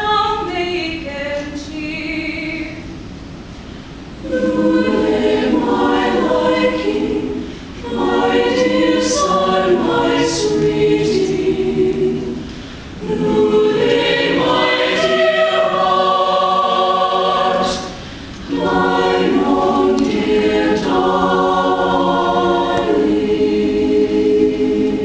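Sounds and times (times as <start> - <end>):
choir singing held chords: 4.1 - 25.0.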